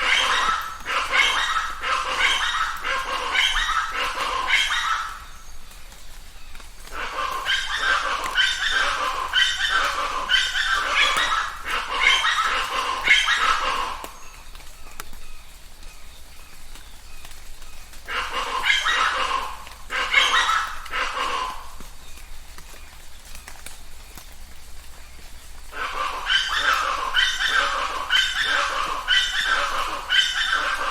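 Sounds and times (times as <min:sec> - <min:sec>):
birds calling raucously: 0:00.0 - 0:30.9.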